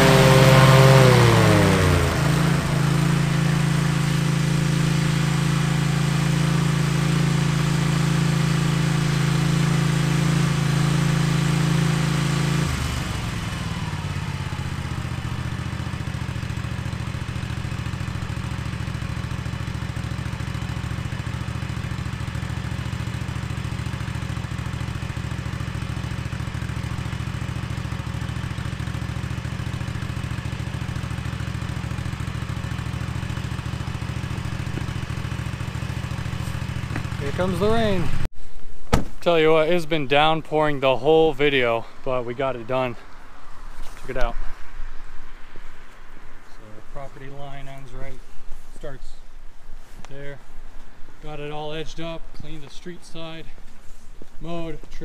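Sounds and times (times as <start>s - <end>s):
engine running and idling: 0.0s - 38.6s, 39.2s - 55.0s.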